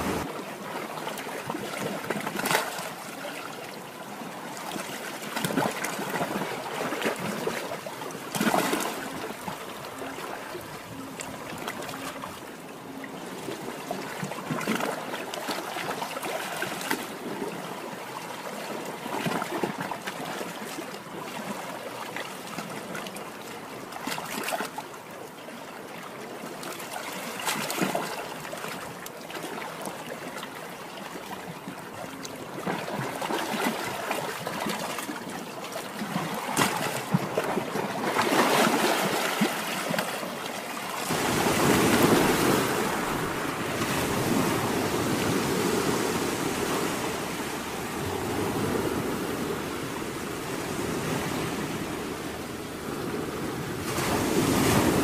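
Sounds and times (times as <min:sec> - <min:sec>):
sea waves washing onto shore: 0:00.0 - 0:22.6, 0:32.7 - 0:55.0.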